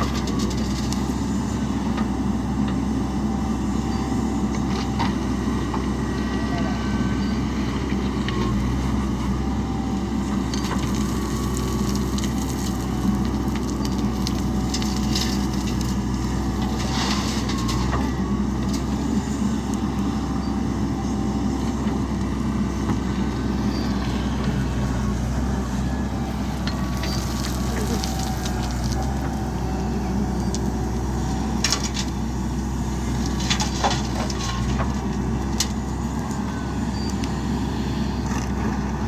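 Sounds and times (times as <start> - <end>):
dirt and metal crunching: 0.0 - 6.2, 7.2 - 37.4
diesel engine running: 0.0 - 39.0.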